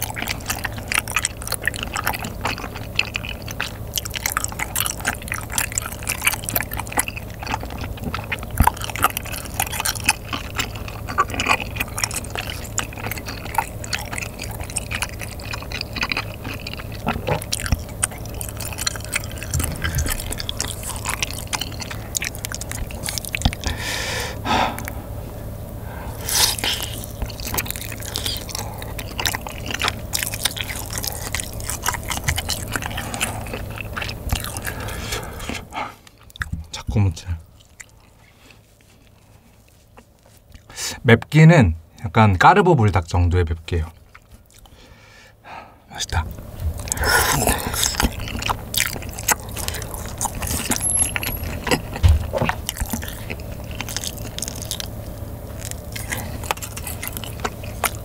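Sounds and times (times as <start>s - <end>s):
wet chewing with mouth smacks: 0.0s - 25.0s, 26.1s - 41.0s, 43.7s - 45.0s, 46.0s - 58.0s.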